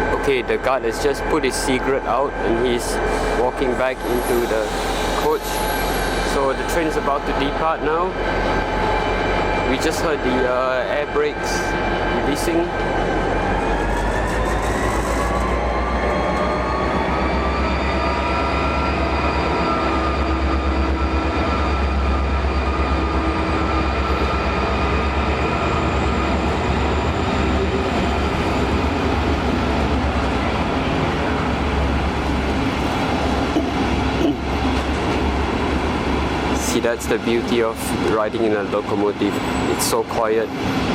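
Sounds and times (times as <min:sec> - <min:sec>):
locomotive whine: 0:00.0 - 0:40.9
low rumble of locomotive: 0:00.0 - 0:40.9.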